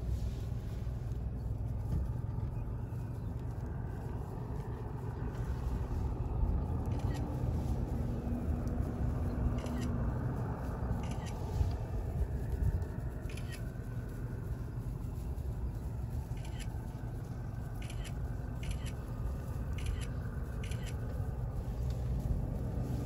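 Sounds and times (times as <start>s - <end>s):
faint hum: 0.0s - 23.0s
vehicle engine rumble: 0.0s - 23.0s.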